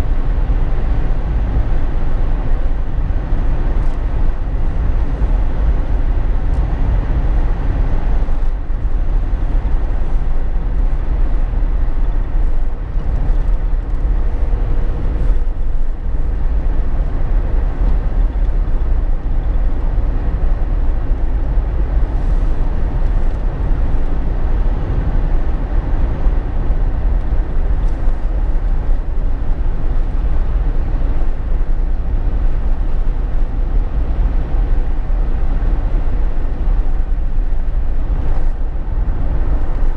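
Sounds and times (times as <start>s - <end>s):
car cabin road noise: 0.0s - 39.9s.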